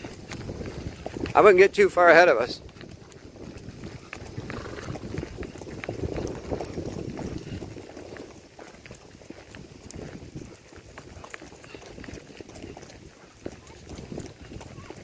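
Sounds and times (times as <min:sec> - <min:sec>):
horse hoofbeats on dirt: 0:00.0 - 0:15.0
rattle and rustle of riding: 0:00.0 - 0:15.0.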